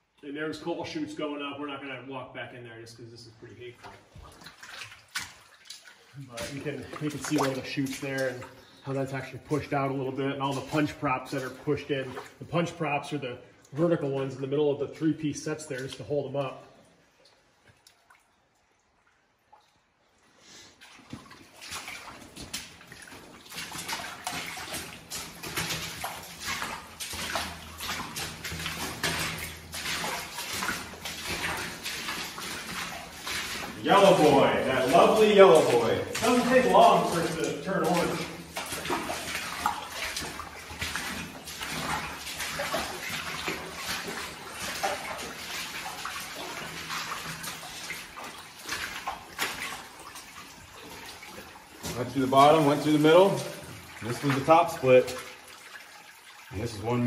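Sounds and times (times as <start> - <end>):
boots splashing through shallow water: 3.7 - 18.2, 20.7 - 56.9.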